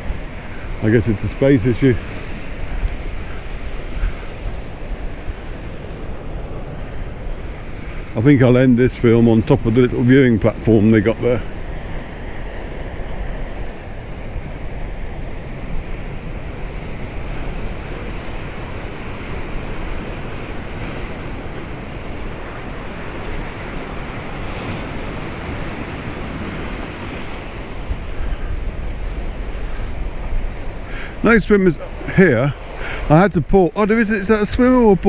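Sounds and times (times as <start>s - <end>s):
sea surf washing ashore: 0.0s - 35.0s
wind rumbling on microphone: 0.0s - 35.0s.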